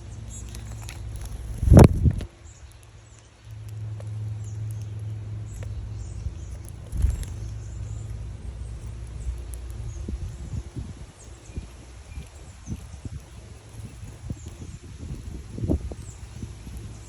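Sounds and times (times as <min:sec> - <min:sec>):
low engine rumble: 0:00.0 - 0:17.0
small birds chirping: 0:00.0 - 0:17.0.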